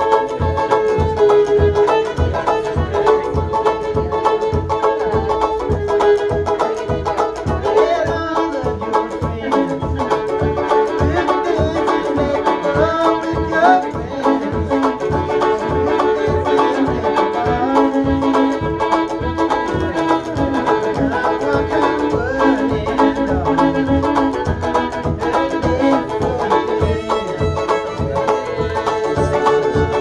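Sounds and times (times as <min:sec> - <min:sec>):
fast banjo picking: 0:00.0 - 0:30.0
fiddle melody: 0:00.0 - 0:30.0
steady low beat: 0:00.0 - 0:30.0.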